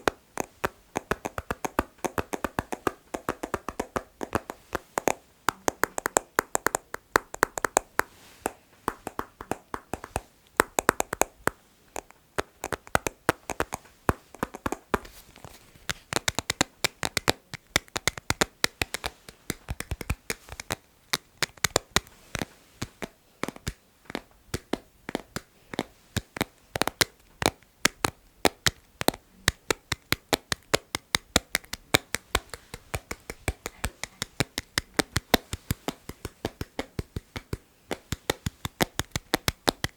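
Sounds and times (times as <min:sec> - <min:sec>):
rapid tapping on objects: 0:00.0 - 0:39.9.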